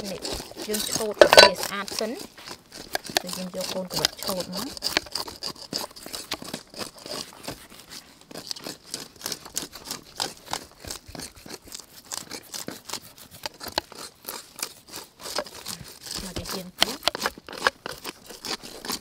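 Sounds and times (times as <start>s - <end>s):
knife scraping fish scales: 0.0s - 19.0s.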